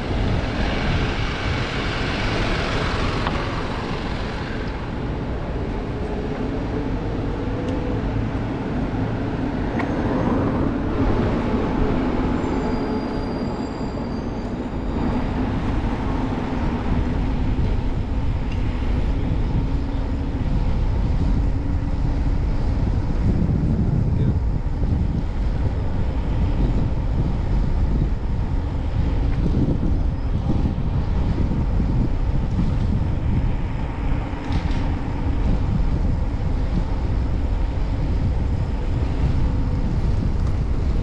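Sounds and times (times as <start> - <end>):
street traffic rumble: 0.0 - 41.0
vehicle engine hum: 0.0 - 41.0.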